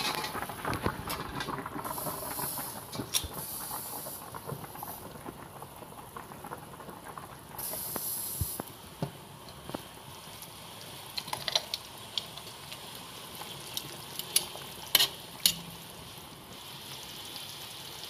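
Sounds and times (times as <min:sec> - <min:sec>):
liquid bubbling and sizzling in wok: 0:00.0 - 0:18.0.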